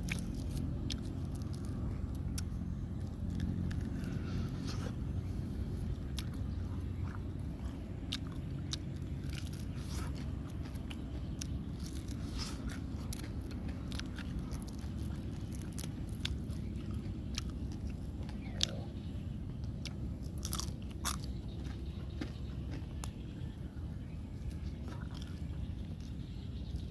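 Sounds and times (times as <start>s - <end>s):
low rumble: 0.0s - 26.9s
person chewing crunchy food: 0.0s - 26.9s.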